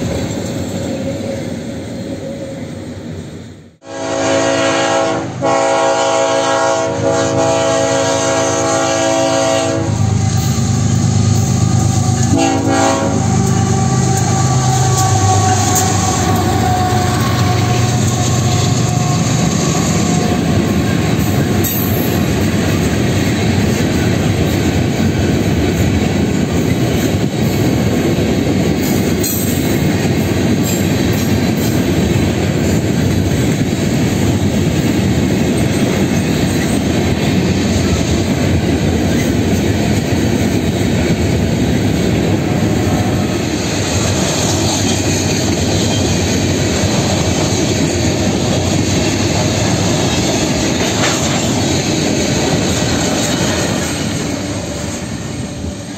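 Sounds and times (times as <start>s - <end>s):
freight train wheels rumbling on rails: 0.0s - 55.9s.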